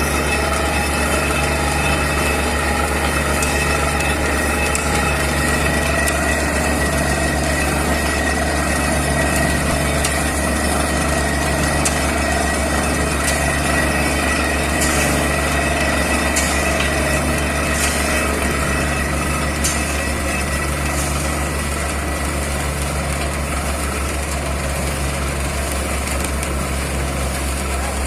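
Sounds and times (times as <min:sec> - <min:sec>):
drilling rig engine drone: 0:00.0 - 0:28.0.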